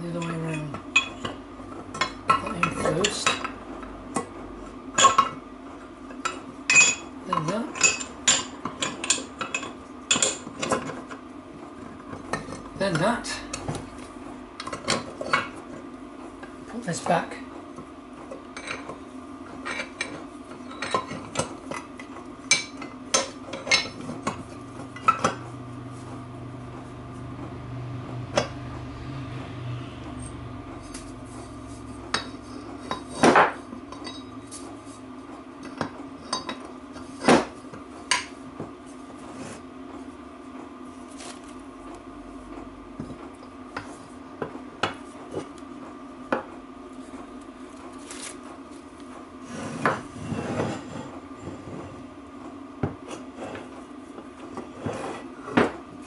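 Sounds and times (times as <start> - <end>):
background hum: 0.0 - 56.0.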